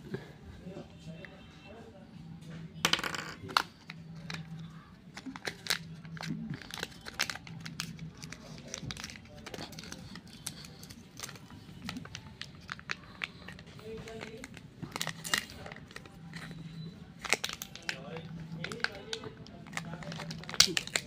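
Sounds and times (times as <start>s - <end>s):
plastic and paper crinkling: 3.6s - 21.0s.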